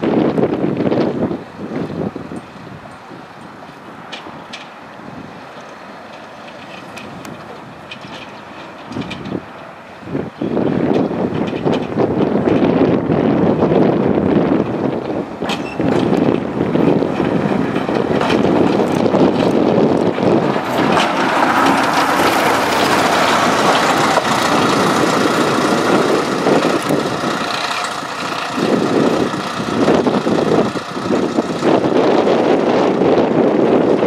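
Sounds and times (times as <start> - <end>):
diesel locomotive passing: 0.0 - 34.0.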